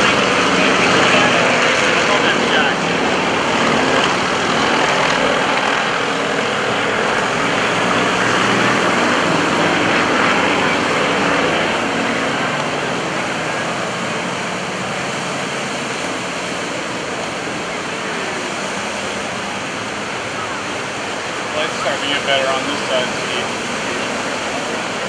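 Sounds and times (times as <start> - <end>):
propeller aircraft engines droning: 0.0 - 25.0.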